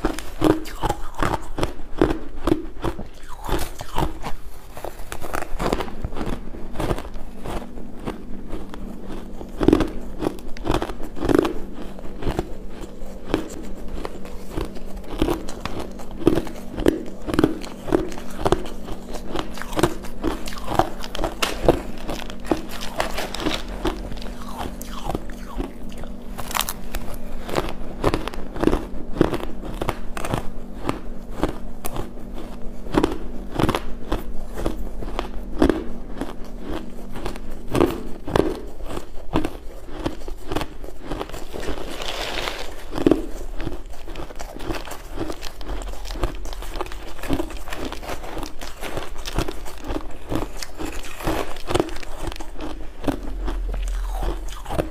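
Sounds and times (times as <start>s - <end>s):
chewing crunchy ice: 0.0s - 54.9s
faint low hum: 0.0s - 54.9s.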